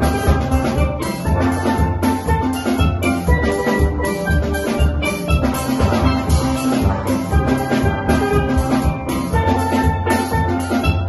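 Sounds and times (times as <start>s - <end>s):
bass steel pans: 0.0s - 11.0s
drum kit beat: 0.0s - 11.0s
steel pans playing melody: 0.0s - 11.0s.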